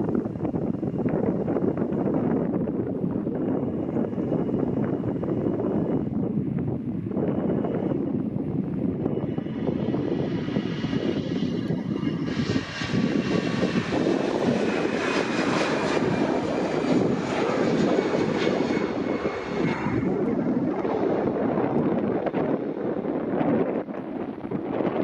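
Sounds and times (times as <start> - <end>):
jet engine high whine: 0.0 - 25.0
jet engines rumbling: 0.0 - 25.0.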